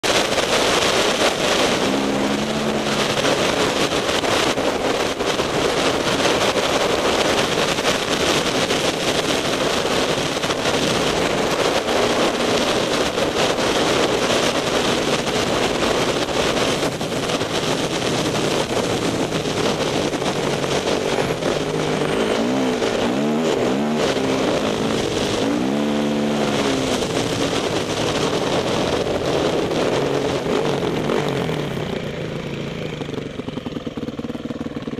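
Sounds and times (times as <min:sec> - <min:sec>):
wind rush: 0:00.0 - 0:33.1
dirt bike engine: 0:00.0 - 0:34.9.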